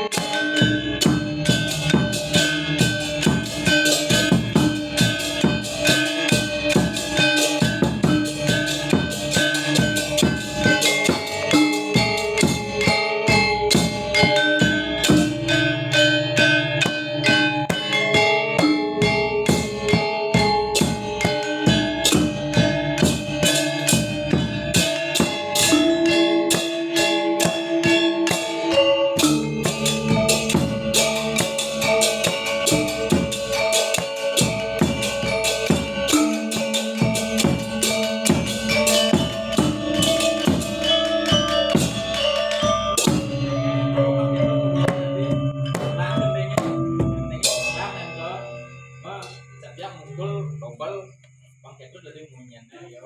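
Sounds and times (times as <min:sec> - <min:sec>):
drums: 0:00.0 - 0:48.4
gamelan ensemble playing: 0:00.0 - 0:50.1.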